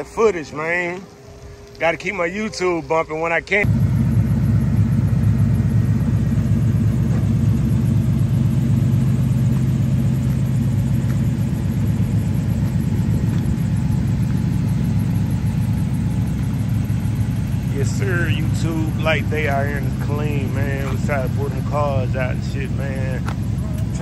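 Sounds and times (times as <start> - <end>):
car engine idling: 0.0 - 24.0
steady low hum: 0.0 - 24.0.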